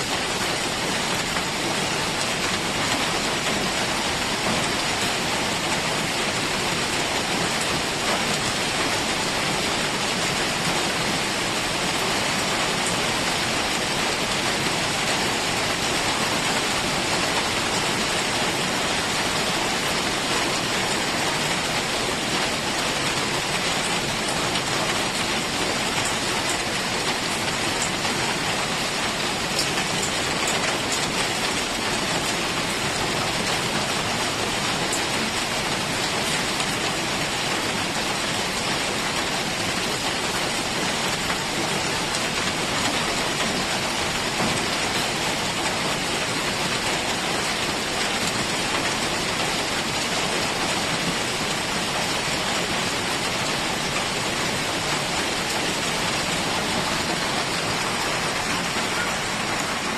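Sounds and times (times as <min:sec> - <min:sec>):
heavy rain in a forest: 0:00.0 - 0:59.9.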